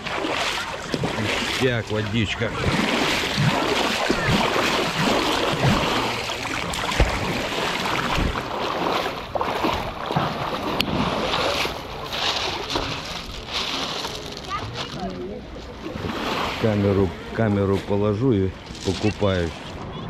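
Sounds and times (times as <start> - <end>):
sea water splashing: 0.0 - 20.0.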